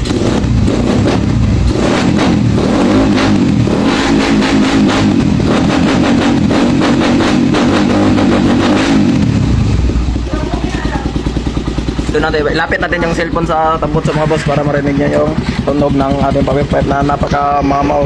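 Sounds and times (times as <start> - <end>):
motorcycle engine revving hard: 0.0 - 18.0.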